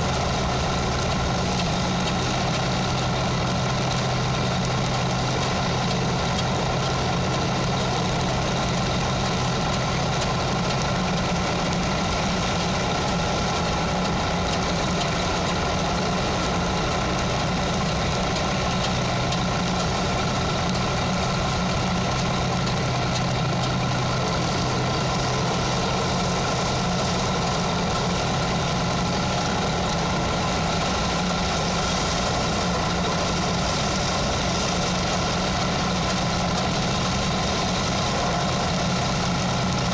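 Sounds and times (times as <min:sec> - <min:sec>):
machinery humming: 0:00.0 - 0:39.9.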